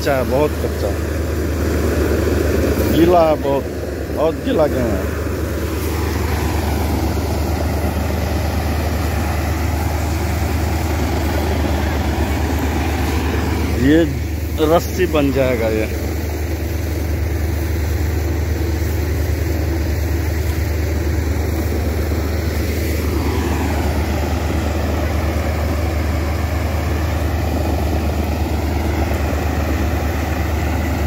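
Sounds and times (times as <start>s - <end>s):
tractor engine hum: 0.0s - 31.0s.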